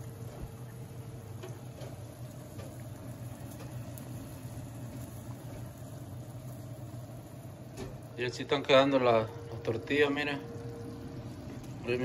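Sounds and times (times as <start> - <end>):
sauce simmering hiss: 0.0 - 12.0
steady low hum: 0.0 - 12.0.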